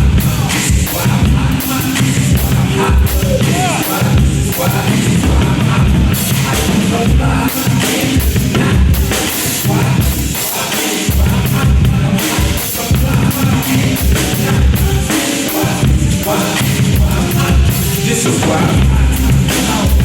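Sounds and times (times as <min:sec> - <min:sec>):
rock music with vocals: 0:00.0 - 0:20.0.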